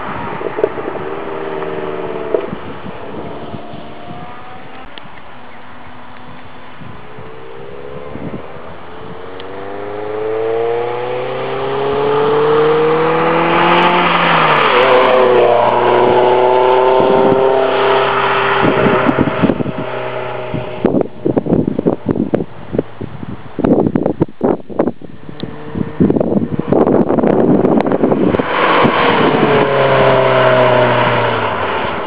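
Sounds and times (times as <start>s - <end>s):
car engine accelerating: 0.0s - 22.2s, 25.0s - 32.0s
wind buffeting microphone: 0.0s - 32.0s.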